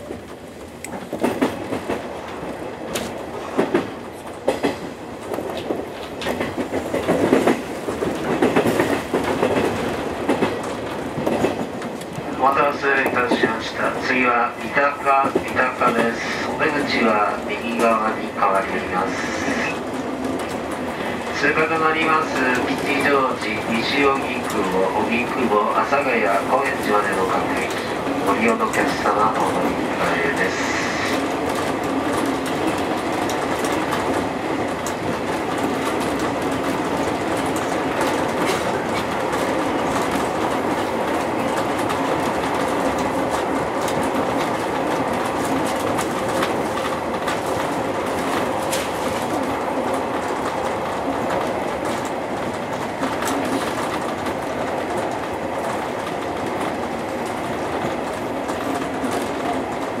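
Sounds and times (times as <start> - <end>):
train wheels rumbling on rail: 0.0 - 60.0.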